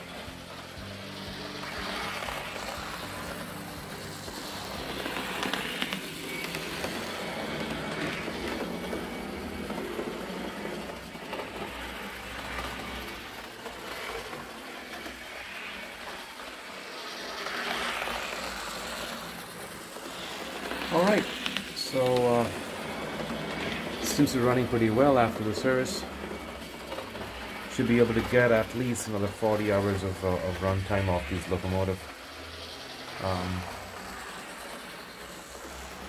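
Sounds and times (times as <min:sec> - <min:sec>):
model train motor whirring: 0:00.0 - 0:36.0.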